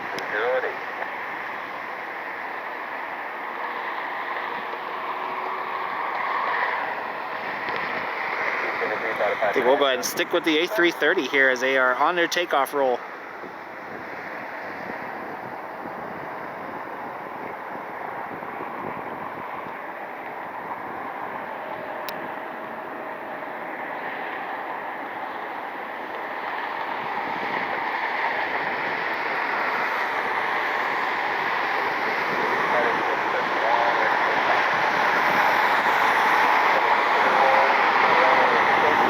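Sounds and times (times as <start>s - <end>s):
jet engines roaring at takeoff: 0.0s - 39.0s.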